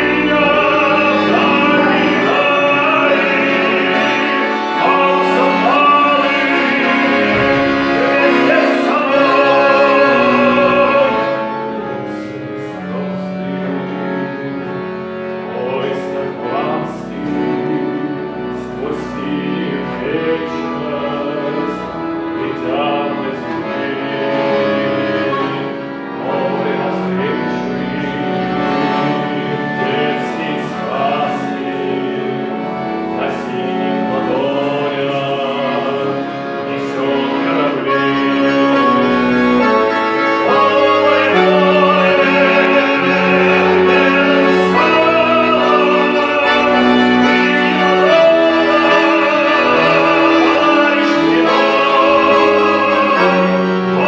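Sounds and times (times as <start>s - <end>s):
person singing with instruments: 0.0s - 54.0s.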